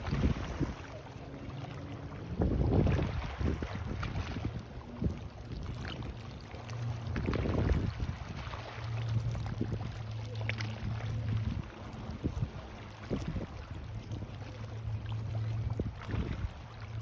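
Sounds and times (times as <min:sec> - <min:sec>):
boat engine droning: 0:00.0 - 0:17.0
water lapping on shore: 0:00.0 - 0:17.0.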